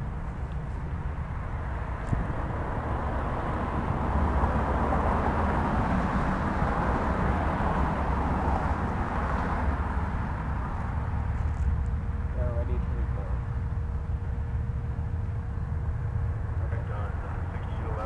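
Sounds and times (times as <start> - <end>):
car tyres and engines: 0.0 - 18.0.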